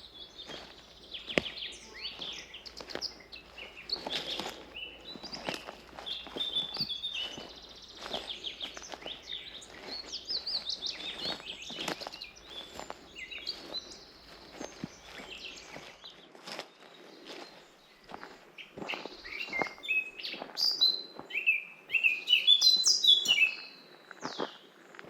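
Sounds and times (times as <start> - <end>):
footsteps on forest path: 0.0 - 25.0
forest birds chirping: 0.0 - 25.0.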